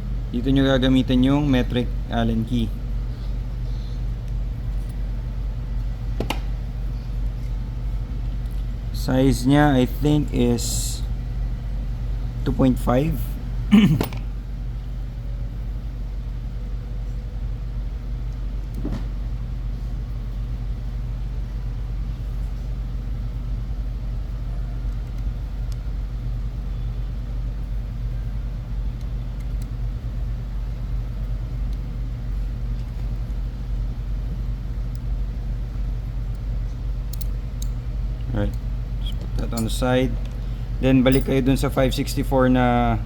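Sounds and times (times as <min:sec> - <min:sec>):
machinery humming: 0:00.0 - 0:43.0.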